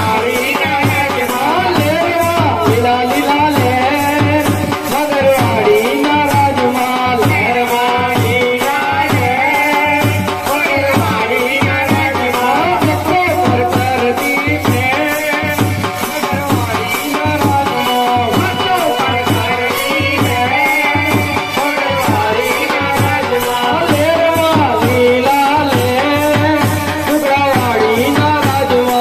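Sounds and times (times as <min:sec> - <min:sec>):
person singing into a microphone: 0:00.0 - 0:29.0
steady drum beat: 0:00.0 - 0:29.0.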